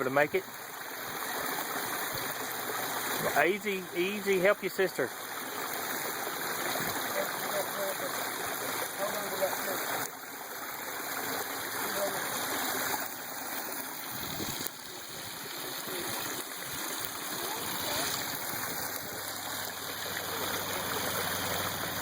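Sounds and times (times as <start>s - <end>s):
small waterfall splashing: 0.0s - 22.0s.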